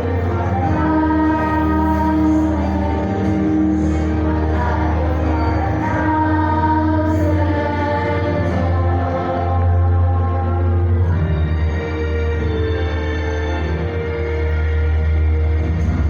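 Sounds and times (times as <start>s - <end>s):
choir singing in harmony: 0.0s - 13.8s
low musical accompaniment: 0.0s - 16.0s.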